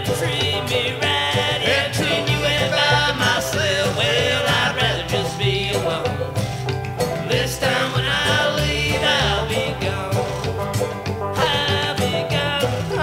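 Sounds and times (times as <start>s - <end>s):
bluegrass band playing: 0.0s - 13.0s.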